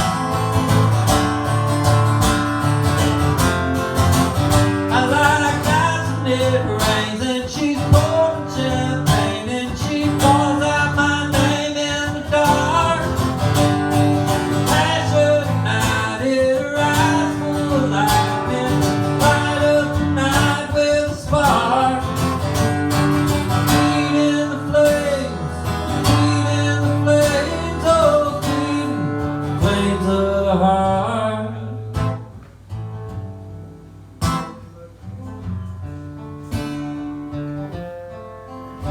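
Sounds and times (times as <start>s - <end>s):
bending lead guitar melody: 0.0s - 31.1s, 31.8s - 38.9s
acoustic guitar strumming: 0.0s - 38.9s.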